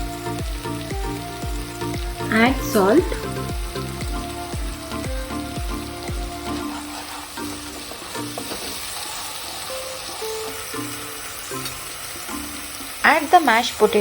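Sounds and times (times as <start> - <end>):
paste sizzling in hot oil: 0.0 - 14.0
soft background music: 0.0 - 14.0.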